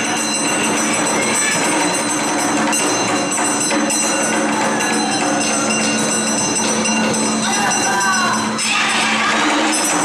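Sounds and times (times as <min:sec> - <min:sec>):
drums: 0:00.0 - 0:10.0
festival band music: 0:00.0 - 0:10.0
held melodic notes: 0:00.0 - 0:10.0
jingly metallic percussion: 0:00.0 - 0:10.0.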